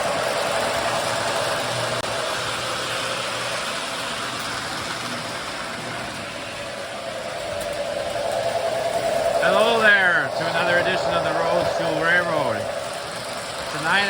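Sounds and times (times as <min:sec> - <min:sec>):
toy train motor hum: 0:00.0 - 0:14.0
wheels rumbling on rails: 0:00.0 - 0:14.0.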